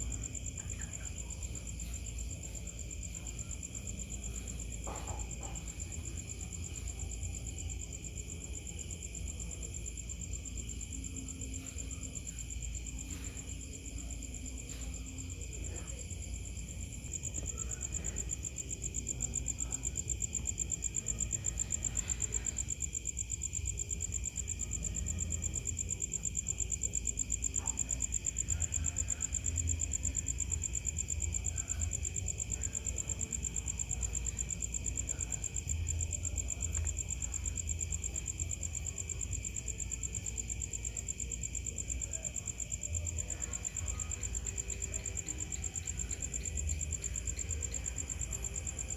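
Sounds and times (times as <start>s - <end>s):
crickets trilling: 0.0s - 48.9s.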